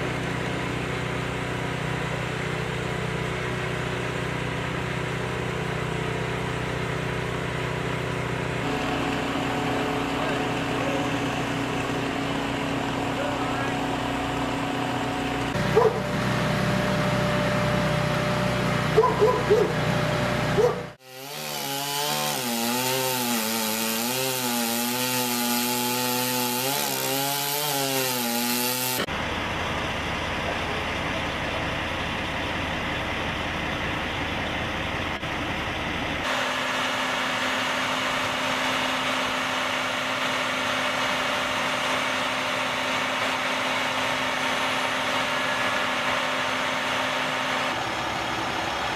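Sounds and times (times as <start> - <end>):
power saws cutting wood: 0.0 - 33.4, 36.1 - 48.9.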